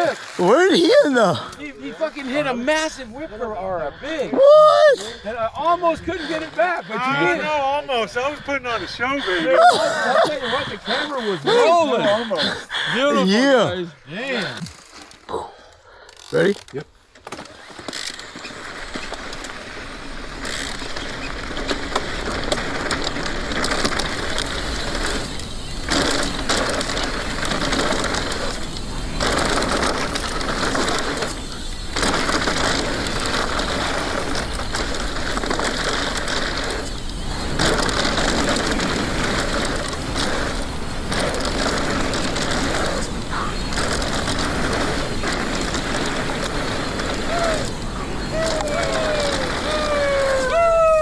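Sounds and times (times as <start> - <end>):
bike tyres on dirt: 0.0 - 15.3, 16.2 - 51.0.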